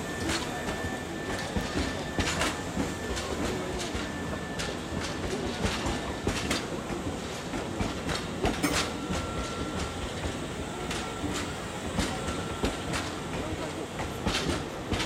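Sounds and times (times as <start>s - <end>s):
train rumble: 0.0s - 15.0s
train wheels clacking over joints: 0.0s - 15.0s.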